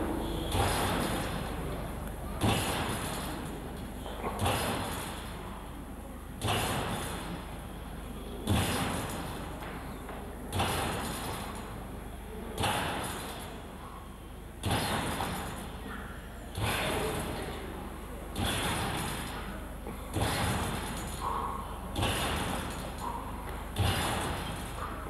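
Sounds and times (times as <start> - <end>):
trampoline thuds and springs: 0.0 - 5.7, 6.3 - 25.0.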